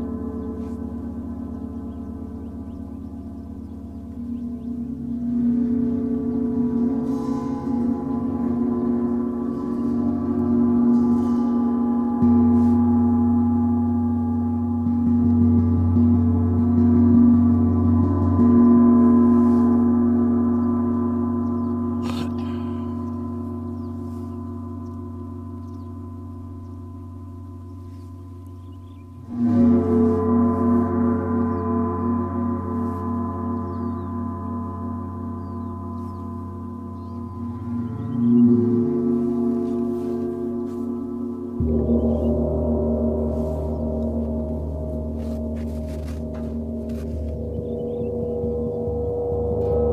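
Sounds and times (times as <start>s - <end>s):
deep low gong hum: 0.0s - 49.9s
gongs ringing: 0.0s - 49.9s.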